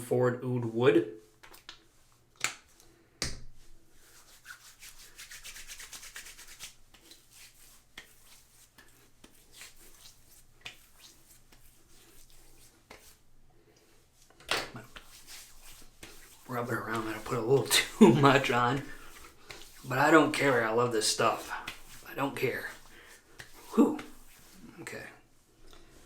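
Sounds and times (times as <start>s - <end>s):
hands rubbing balm on face: 1.2s - 26.0s.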